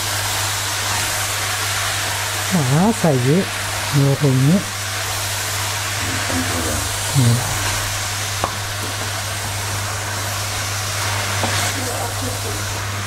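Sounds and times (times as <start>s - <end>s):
sausage and onions sizzling in pot: 0.0s - 13.0s
steady low hum: 2.4s - 13.0s.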